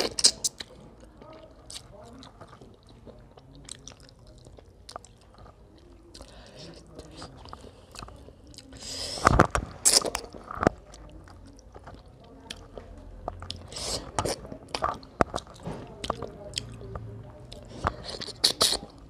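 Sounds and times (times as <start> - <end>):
person chewing with wet smacks: 0.0 - 19.0.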